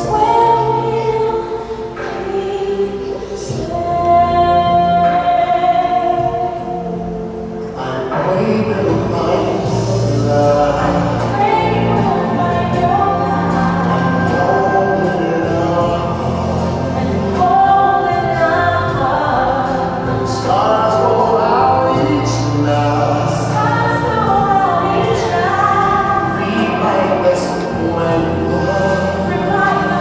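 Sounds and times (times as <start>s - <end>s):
gospel song with vocals: 0.0s - 30.0s.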